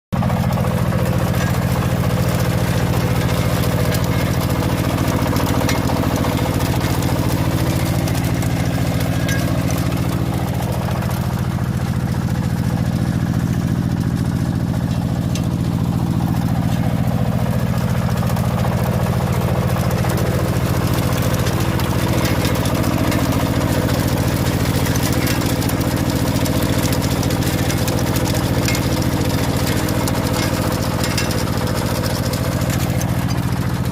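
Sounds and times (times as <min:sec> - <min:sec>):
machine engine running: 0:00.2 - 0:33.9.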